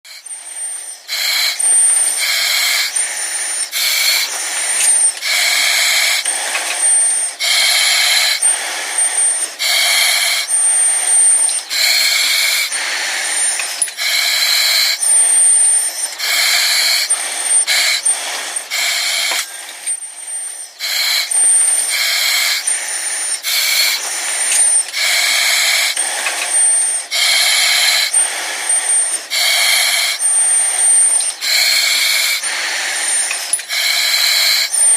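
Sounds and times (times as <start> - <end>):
breathing through oxygen mask: 0.1 - 34.9.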